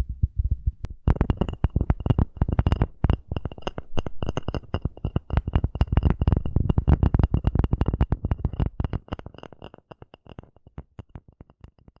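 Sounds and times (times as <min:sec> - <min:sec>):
scratching wooden coaster: 0:01.1 - 0:11.3.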